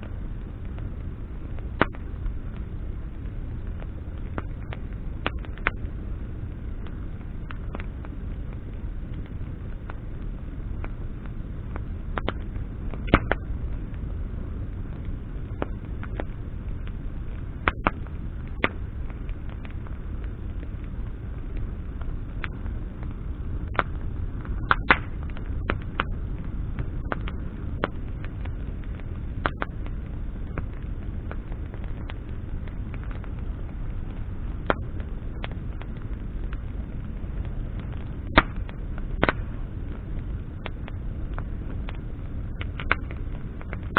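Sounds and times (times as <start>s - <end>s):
bonfire flames rushing: 0.0s - 43.9s
fire crackling and popping: 0.0s - 43.9s
low steady rumble: 0.0s - 43.9s.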